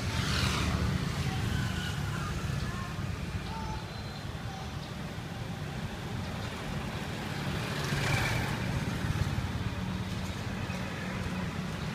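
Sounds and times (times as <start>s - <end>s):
low rumble of street noise: 0.0s - 11.9s.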